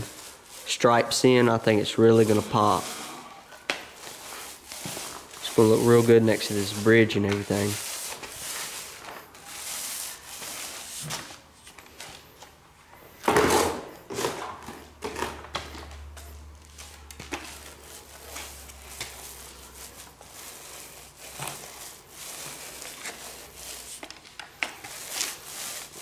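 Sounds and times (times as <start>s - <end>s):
paint roller rubbing on concrete: 0.0s - 11.5s, 16.6s - 26.0s.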